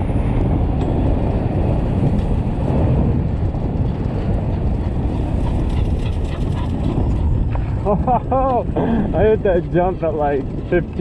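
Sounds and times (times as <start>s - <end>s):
wind rumble: 0.0s - 11.0s.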